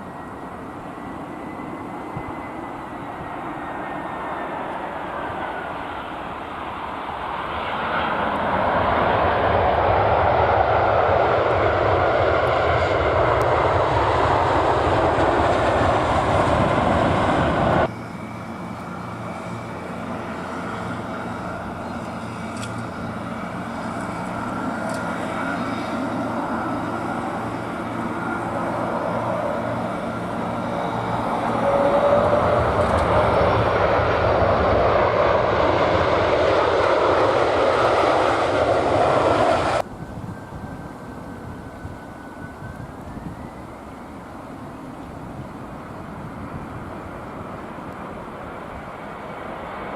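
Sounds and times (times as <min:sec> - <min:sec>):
approaching jet: 0:00.0 - 0:49.9
jet engines running: 0:00.0 - 0:49.9.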